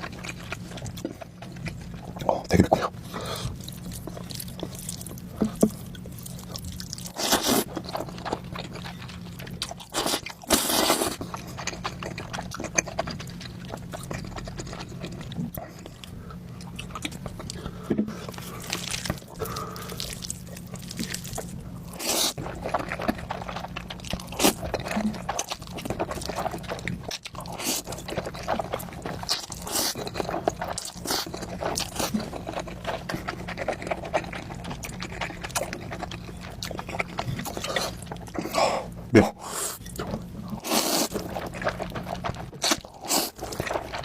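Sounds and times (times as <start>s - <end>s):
chewing with wet mouth clicks: 0.0s - 38.6s.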